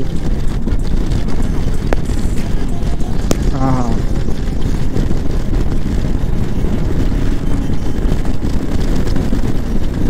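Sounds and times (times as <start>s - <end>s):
motorcycle engine cruising: 0.0s - 10.0s
wind on microphone: 0.0s - 10.0s.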